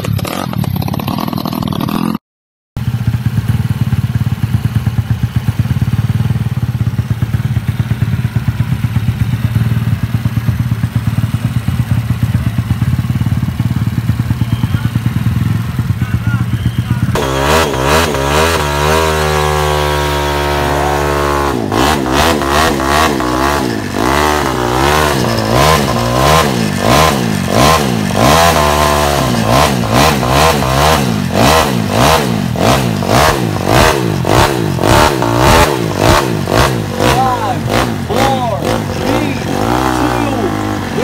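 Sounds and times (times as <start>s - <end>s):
scooter engine revving: 0.0s - 2.2s, 2.8s - 41.0s.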